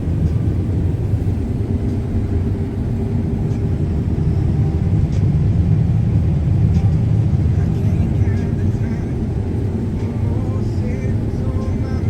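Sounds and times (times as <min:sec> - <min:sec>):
combine harvester rumbling: 0:00.0 - 0:12.0
faint steady hum: 0:00.0 - 0:12.0.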